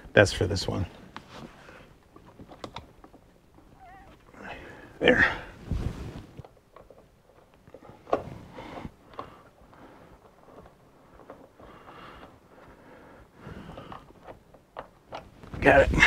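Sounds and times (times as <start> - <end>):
soft rustling: 0.9 - 14.4.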